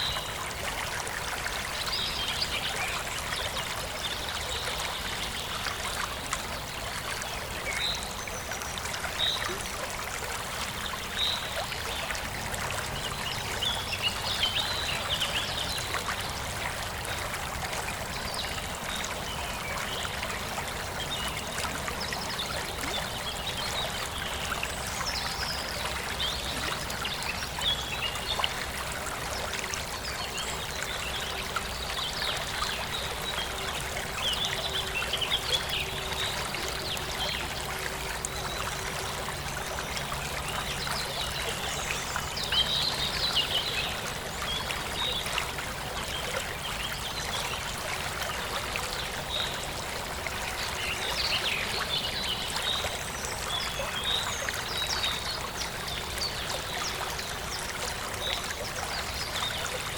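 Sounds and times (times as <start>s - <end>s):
forest stream trickling: 0.0s - 59.9s.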